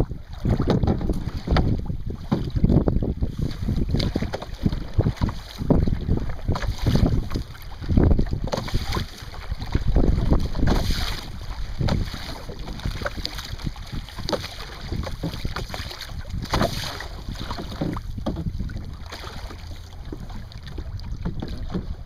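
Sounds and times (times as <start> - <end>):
water splashing and slapping: 0.0 - 22.0
wind buffeting microphone: 0.0 - 22.0.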